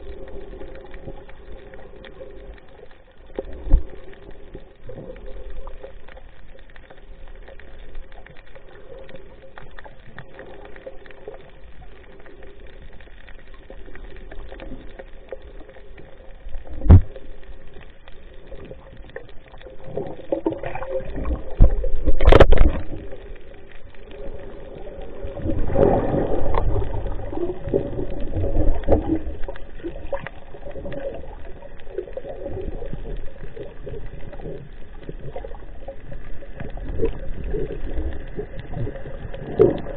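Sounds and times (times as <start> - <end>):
faint steady hum: 0.0 - 39.9
muffled underwater gurgling: 0.0 - 39.9.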